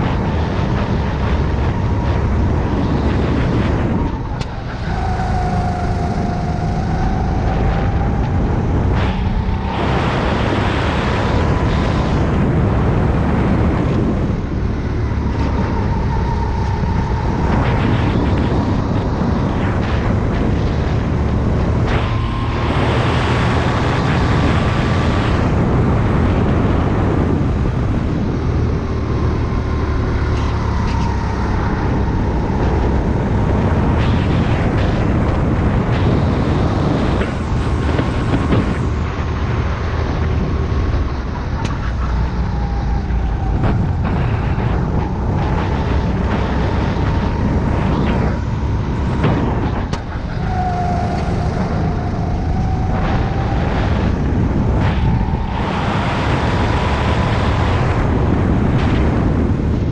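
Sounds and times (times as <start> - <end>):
kart engine running hard: 0.0 - 59.9
rushing wind noise: 0.0 - 59.9.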